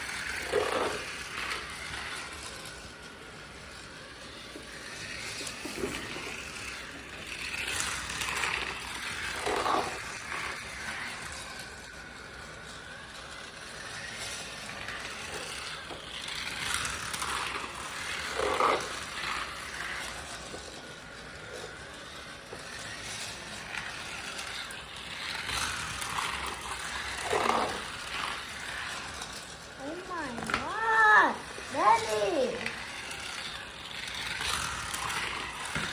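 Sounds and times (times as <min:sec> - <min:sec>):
toy car rattling on plastic track: 0:00.0 - 0:35.9.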